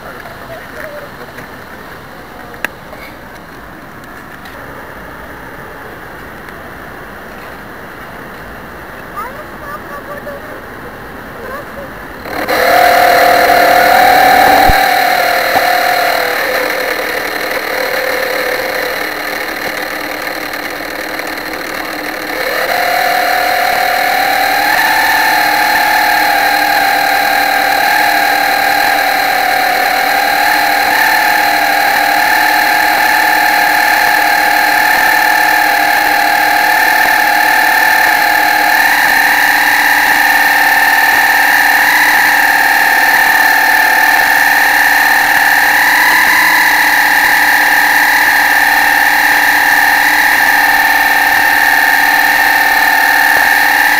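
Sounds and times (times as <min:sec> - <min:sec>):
model boat motor whine: 0:10.2 - 0:53.9.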